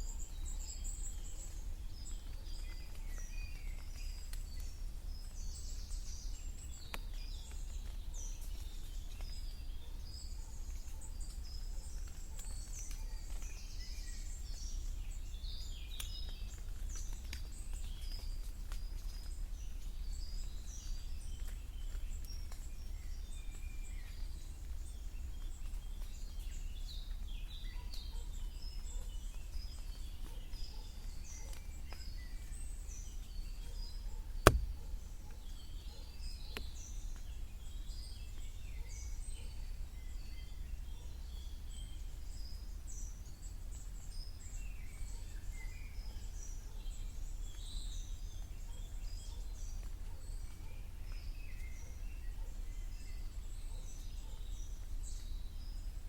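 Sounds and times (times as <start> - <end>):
birds singing and calling: 0.0 - 56.0.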